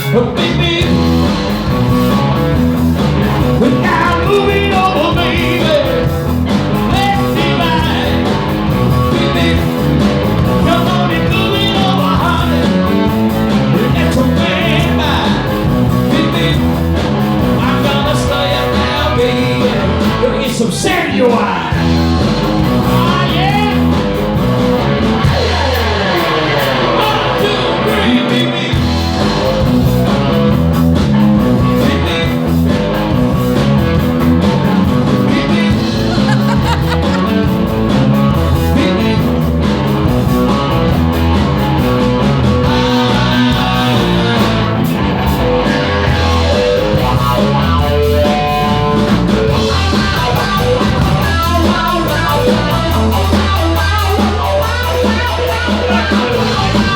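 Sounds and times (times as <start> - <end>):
electric guitar lead: 0.0 - 20.4, 21.2 - 56.9
stepping bass line: 0.0 - 20.4, 21.7 - 56.9
rock and roll band playing: 0.0 - 56.9.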